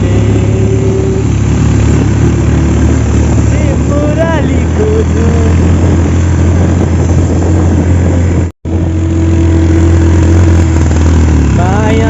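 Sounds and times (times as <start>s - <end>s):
rushing noise: 0.0s - 12.0s
vehicle engine droning: 0.0s - 12.0s.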